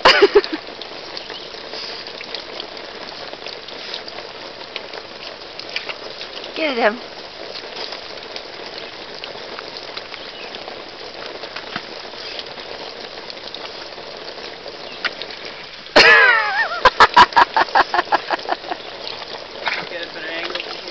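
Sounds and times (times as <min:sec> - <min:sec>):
pump sputtering: 0:00.0 - 0:20.9
water hissing from leaking hose: 0:00.0 - 0:20.9.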